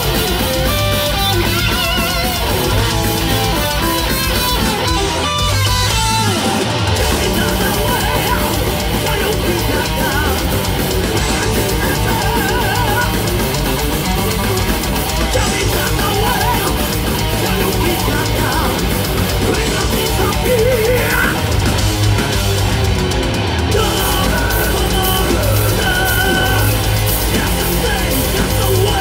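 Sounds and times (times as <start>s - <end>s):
heavy metal band playing live: 0.0s - 29.0s
high wavering guitar lead line: 0.0s - 29.0s.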